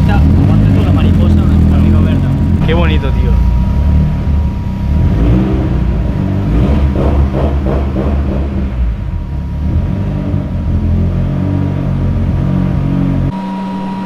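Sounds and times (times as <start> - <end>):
turbocharged car engine idling: 0.0 - 14.0.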